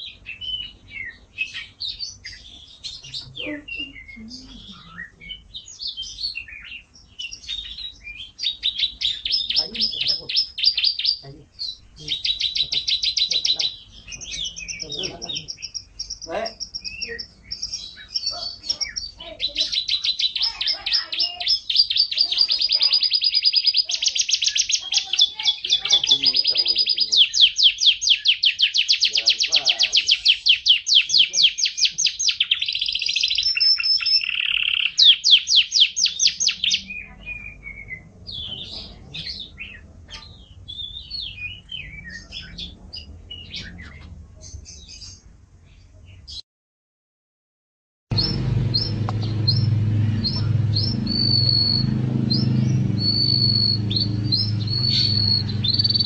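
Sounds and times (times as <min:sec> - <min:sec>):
canary singing trills: 0:00.0 - 0:46.4, 0:48.1 - 0:56.0.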